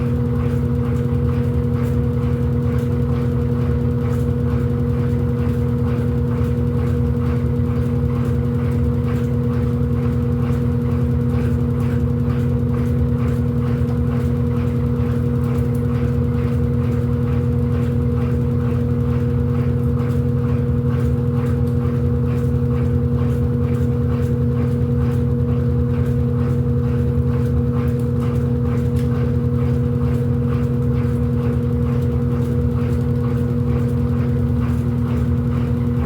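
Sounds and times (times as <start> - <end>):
washing machine motor humming: 0.0 - 36.0.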